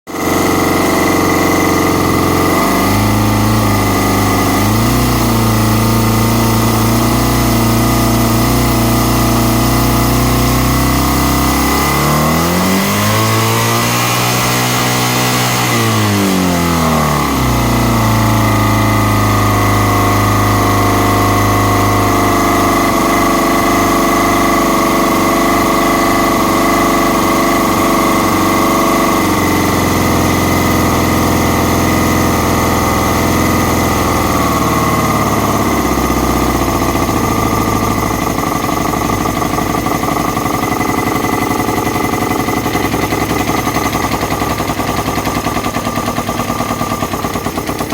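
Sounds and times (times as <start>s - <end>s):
motorcycle engine idling: 0.1s - 13.3s, 15.8s - 47.9s.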